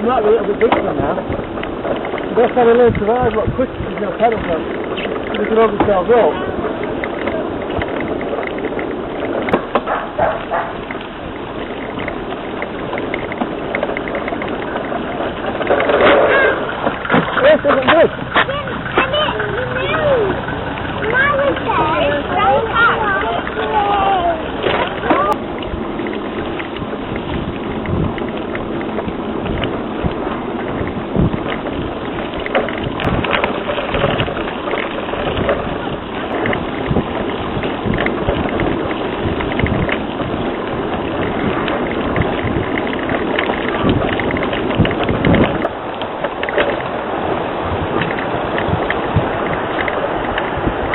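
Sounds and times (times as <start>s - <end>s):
light regular ticking: 0.0s - 47.0s
mountain bike rumbling on trail: 0.0s - 50.9s
wind buffeting microphone: 0.0s - 50.9s
small clicks and knocks: 0.5s - 6.2s, 6.8s - 23.8s, 24.6s - 40.3s, 41.0s - 47.0s, 48.0s - 50.9s.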